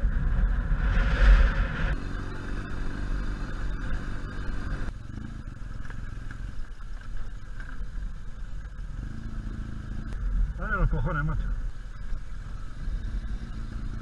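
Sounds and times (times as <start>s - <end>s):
motorcycle engine running low: 0.0s - 14.0s.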